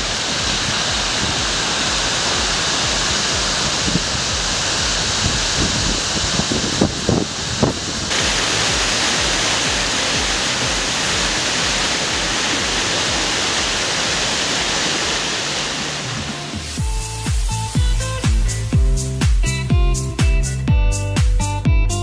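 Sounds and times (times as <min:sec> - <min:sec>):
waterfall roaring: 0:00.0 - 0:18.4
low bumps: 0:00.0 - 0:22.0.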